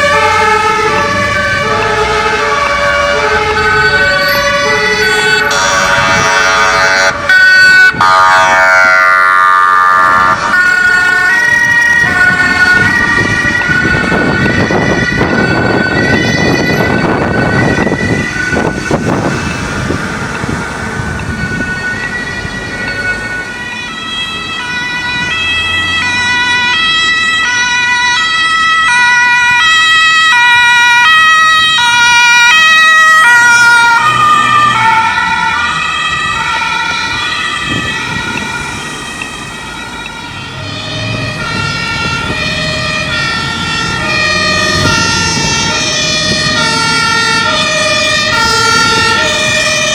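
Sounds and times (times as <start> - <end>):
engine and traffic rumble: 0.0 - 49.9
two-tone emergency sirens: 0.0 - 49.9.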